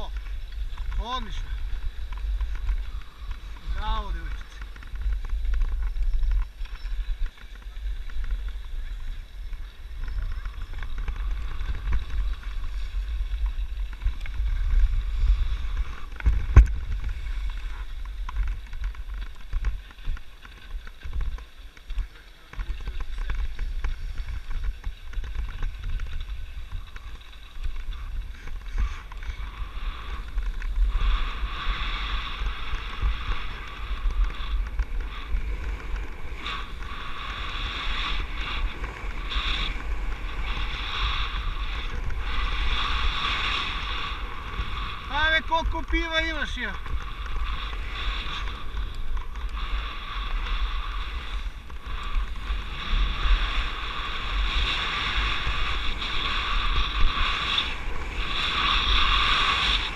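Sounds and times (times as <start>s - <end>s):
skis scraping over snow: 0.0s - 59.9s
wind buffeting microphone: 0.0s - 59.9s.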